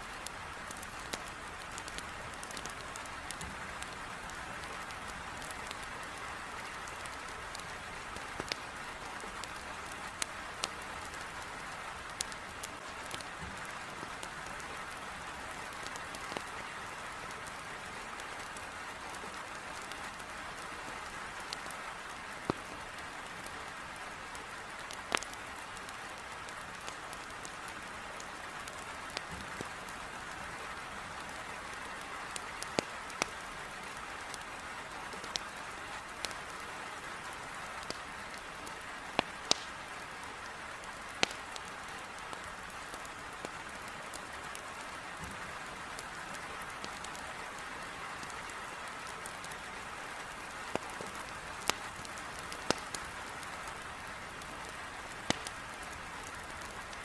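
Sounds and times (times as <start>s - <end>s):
heavy rain on a window: 0.0s - 57.0s
firewood popping and crackling: 0.2s - 17.5s, 19.7s - 20.2s, 21.4s - 21.7s, 22.3s - 23.5s, 24.6s - 30.4s, 31.2s - 34.4s, 35.2s - 36.6s, 37.3s - 47.3s, 49.1s - 57.0s.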